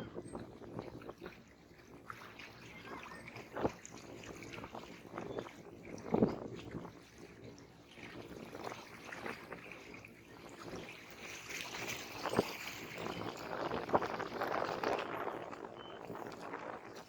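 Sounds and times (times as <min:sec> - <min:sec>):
sea waves lapping on shore: 0:00.0 - 0:17.0
water slapping: 0:00.0 - 0:17.0.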